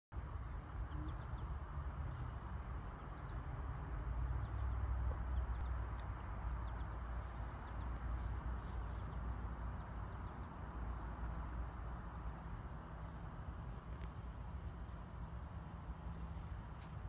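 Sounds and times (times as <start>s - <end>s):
small birds chirping: 0.2s - 17.0s
steady low rumble: 0.4s - 17.0s.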